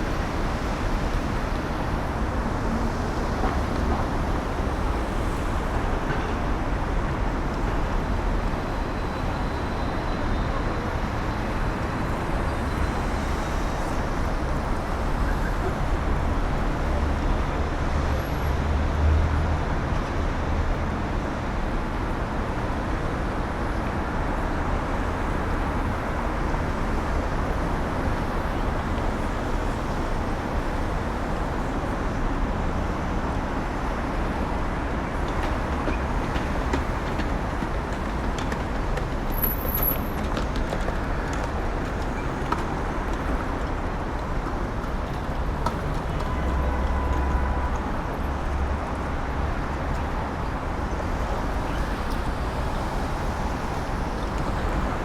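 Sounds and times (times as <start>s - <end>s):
heavy vehicle rumble: 0.0s - 55.0s
road traffic: 0.0s - 55.0s.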